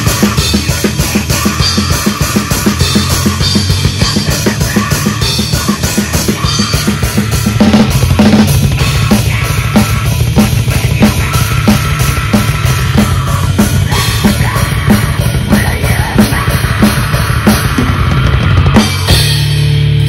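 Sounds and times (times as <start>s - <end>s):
fast bass drum: 0.0s - 20.0s
heavy metal music: 0.0s - 20.0s.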